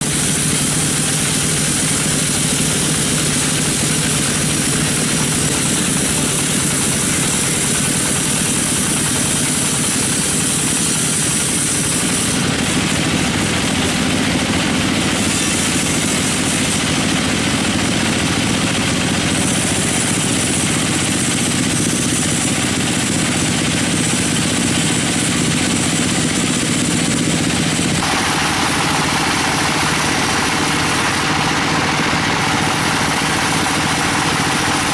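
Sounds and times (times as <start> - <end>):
sawmill machinery drone: 0.0 - 34.9.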